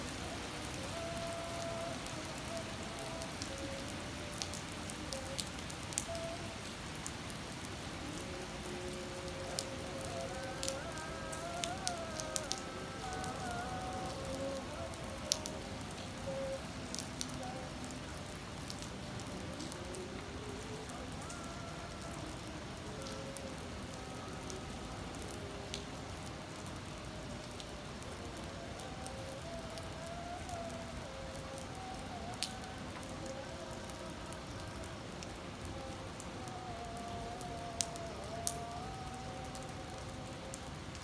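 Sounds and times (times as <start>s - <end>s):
rain on wet pavement: 0.0s - 41.0s
sharp raindrop ticks: 0.6s - 41.0s.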